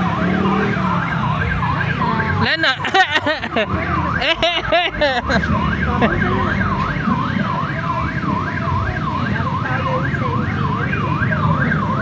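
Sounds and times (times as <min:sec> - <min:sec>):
siren yelping: 0:00.0 - 0:12.0.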